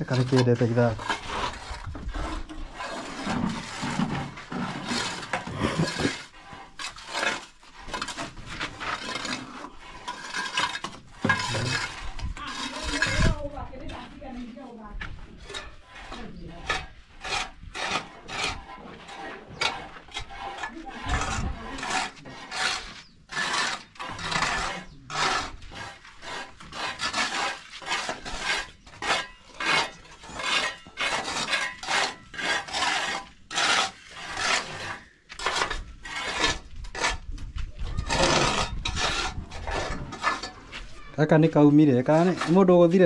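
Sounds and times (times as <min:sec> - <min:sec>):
rough scraping strokes: 0:00.0 - 0:43.0.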